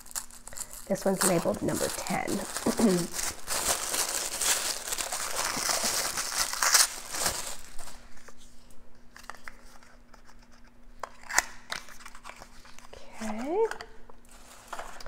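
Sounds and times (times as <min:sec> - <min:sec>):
paper wrapping crinkling and tearing: 0:00.0 - 0:08.5, 0:09.1 - 0:13.5, 0:14.2 - 0:15.0.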